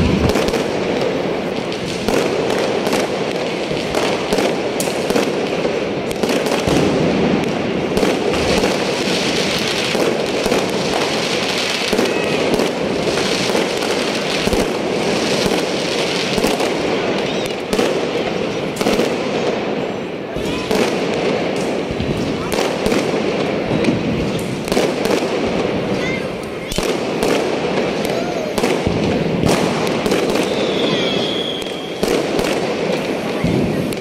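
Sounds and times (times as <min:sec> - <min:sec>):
fireworks and firecrackers popping: 0:00.0 - 0:34.0.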